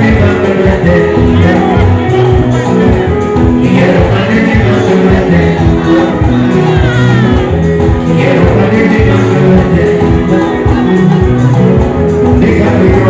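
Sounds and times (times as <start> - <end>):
live band music: 0.0 - 13.0
person singing: 0.0 - 13.0
repeating bass line: 0.0 - 13.0.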